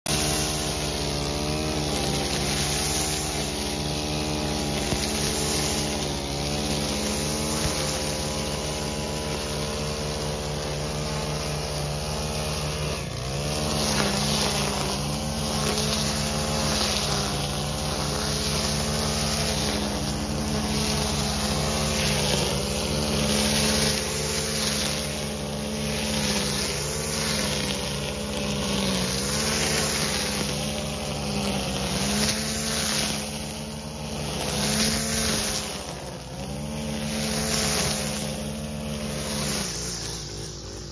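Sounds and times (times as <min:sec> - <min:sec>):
string trimmer engine running: 0:00.0 - 0:40.9
trimmer line cutting grass: 0:00.0 - 0:40.9.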